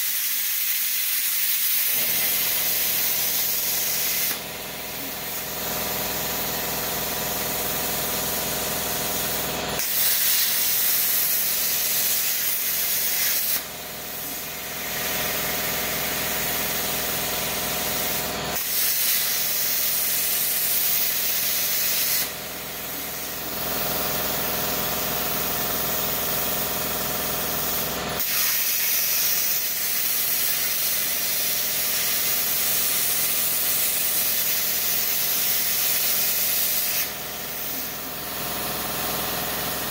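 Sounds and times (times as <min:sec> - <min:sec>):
plasma cutter hissing: 0:00.0 - 0:24.5, 0:27.5 - 0:39.9.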